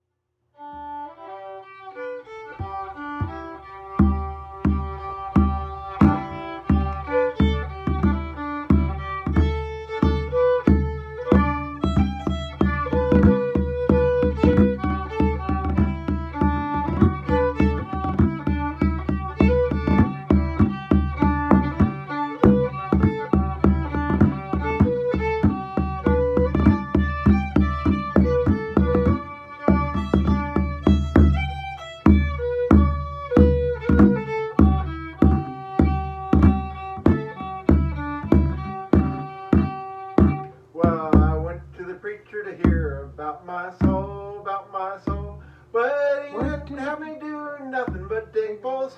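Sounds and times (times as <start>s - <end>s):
fiddle melody: 0.6s - 41.8s
frame drum beat: 2.6s - 41.8s, 42.6s - 43.2s, 43.8s - 44.3s, 46.3s - 47.0s, 47.8s - 48.4s.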